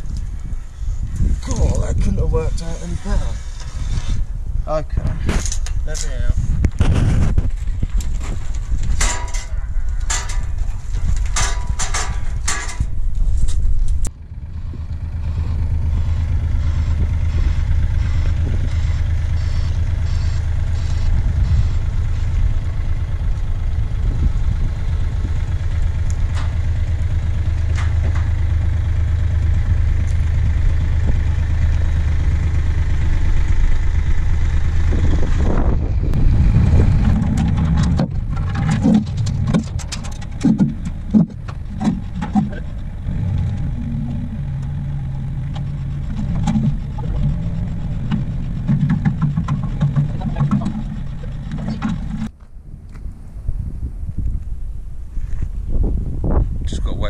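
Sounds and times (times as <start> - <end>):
forklift engine droning: 0.0 - 57.0.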